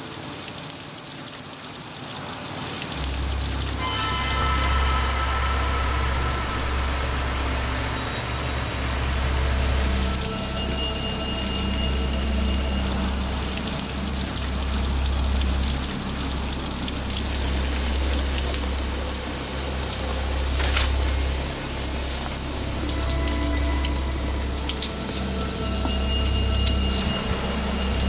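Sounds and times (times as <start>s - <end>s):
heavy rain falling: 0.0s - 28.0s
low rumble: 3.0s - 28.0s.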